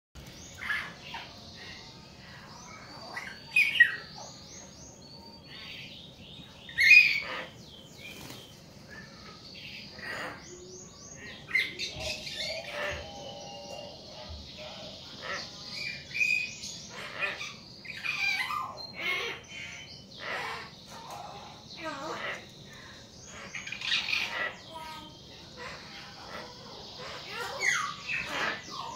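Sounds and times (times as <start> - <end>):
birds whistling and squawking: 0.2 - 28.9.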